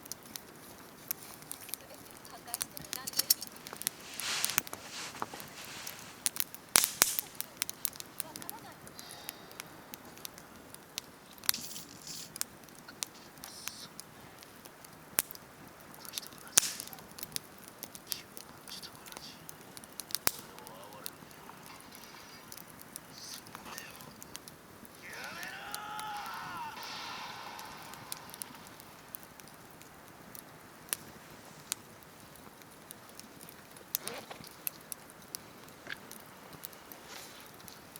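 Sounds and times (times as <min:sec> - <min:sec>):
campfire crackling and popping: 0:00.0 - 0:37.9
faint steady hiss: 0:00.0 - 0:37.9.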